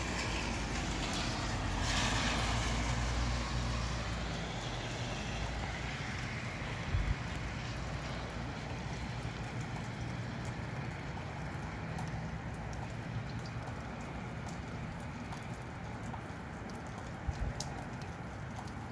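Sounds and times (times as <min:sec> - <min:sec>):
rain falling: 0:00.0 - 0:18.9
raindrops ticking on surfaces: 0:00.0 - 0:18.9.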